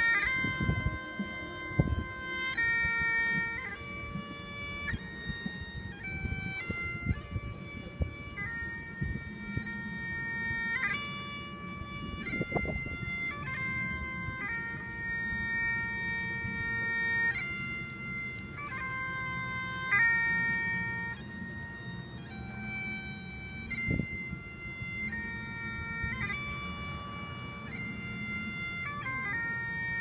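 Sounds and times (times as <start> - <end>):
bagpipe playing slow tune: 0.0 - 30.0.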